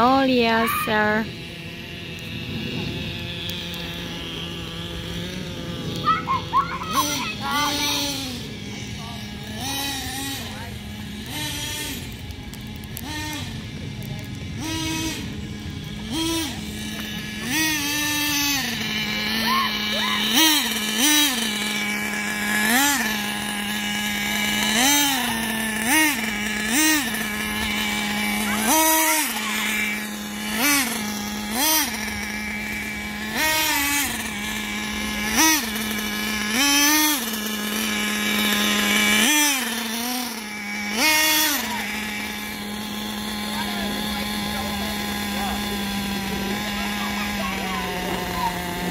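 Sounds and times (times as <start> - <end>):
small glow engine revving: 0.0 - 48.9.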